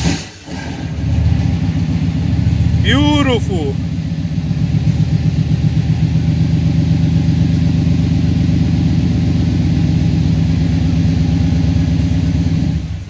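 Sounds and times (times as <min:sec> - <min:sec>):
pickup engine idling: 0:00.8 - 0:13.0.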